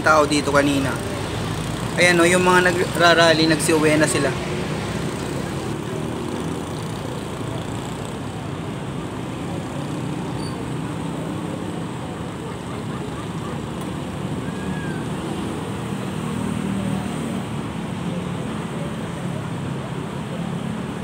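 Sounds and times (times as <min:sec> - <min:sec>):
motor scooters and motorcycles: 0:00.0 - 0:21.0
street traffic passing: 0:00.0 - 0:21.0.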